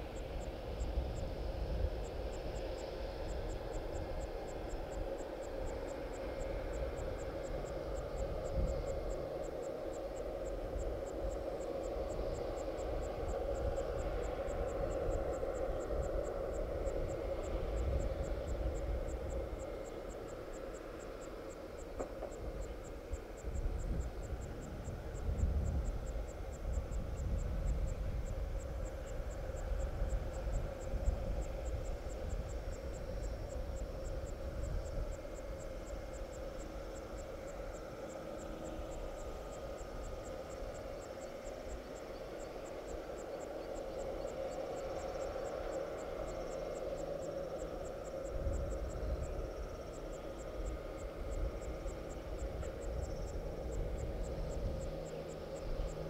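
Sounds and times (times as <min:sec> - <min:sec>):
aircraft ground equipment hum: 0:00.0 - 0:56.0
insect chirping: 0:00.0 - 0:56.0
low gusty rumbling: 0:00.0 - 0:56.0.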